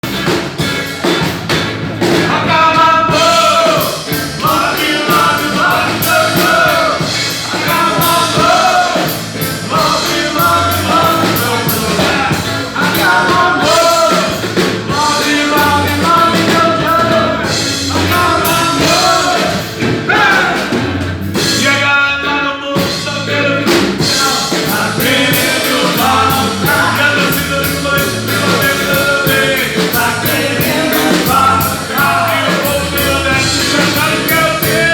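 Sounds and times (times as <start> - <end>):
live rock band playing: 0.0 - 34.9
lead singer singing: 2.0 - 34.9.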